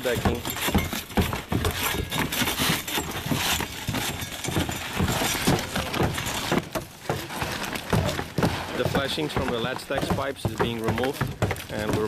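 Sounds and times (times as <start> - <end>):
hand tools knocking and scraping wood: 0.0 - 12.0.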